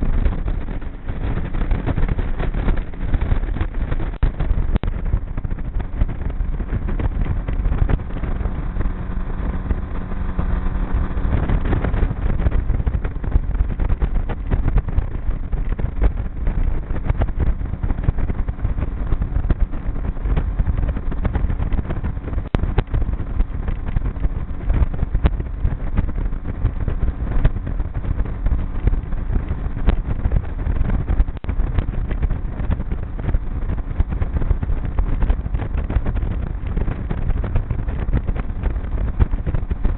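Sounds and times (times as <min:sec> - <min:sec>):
outboard motor drone: 0:00.0 - 0:39.9
wind noise on microphone: 0:00.0 - 0:39.9.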